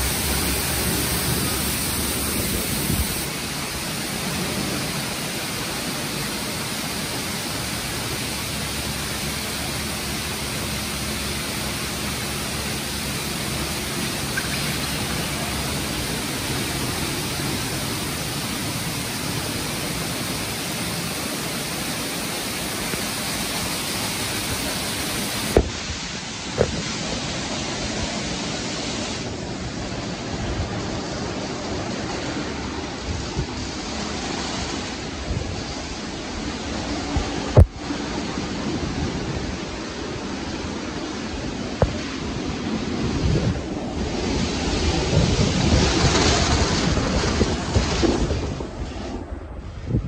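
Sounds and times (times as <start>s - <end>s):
car wash water spraying: 0.0s - 49.5s.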